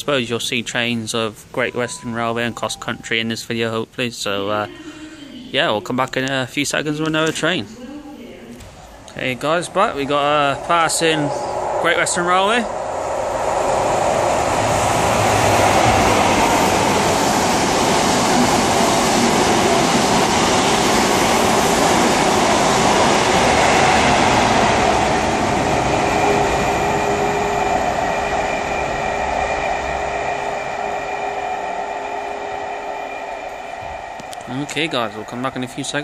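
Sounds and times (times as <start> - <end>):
train passing at speed: 6.6 - 36.0
train whine: 6.8 - 36.0.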